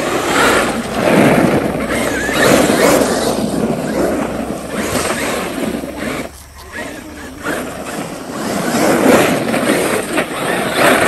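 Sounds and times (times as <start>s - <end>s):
toy truck driving over bricks: 0.0s - 11.0s.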